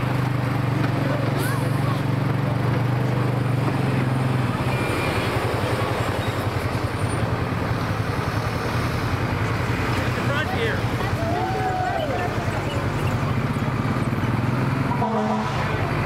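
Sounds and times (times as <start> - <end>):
fire truck engines running: 0.0 - 16.0.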